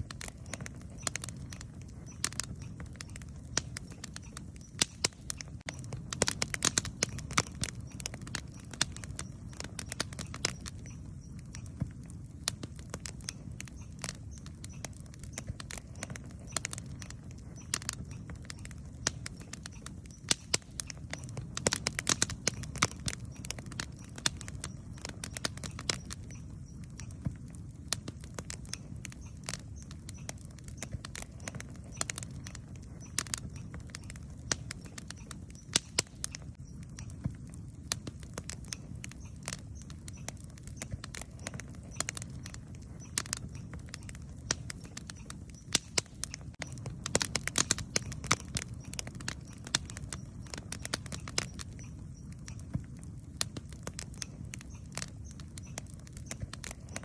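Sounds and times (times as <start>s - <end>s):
campfire crackling and popping: 0.0s - 57.0s
low rumble of flames: 0.0s - 57.0s.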